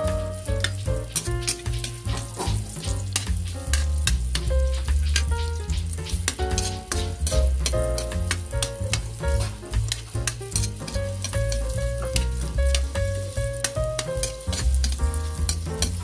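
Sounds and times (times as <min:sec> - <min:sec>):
music with heavy bass: 0:00.0 - 0:16.0
onions sizzling in hot oil: 0:00.0 - 0:16.0
metal spatula scraping wok: 0:00.1 - 0:16.0.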